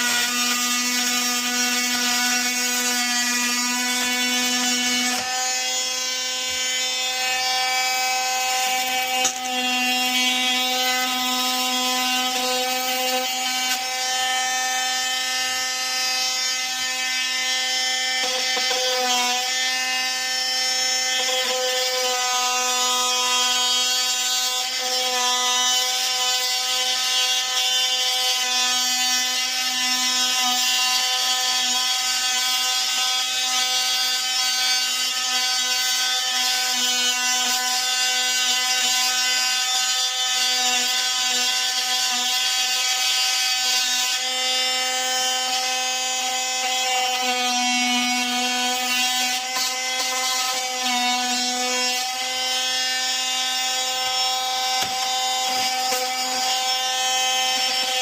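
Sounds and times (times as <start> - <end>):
power tool buzzing: 0.0 - 58.0.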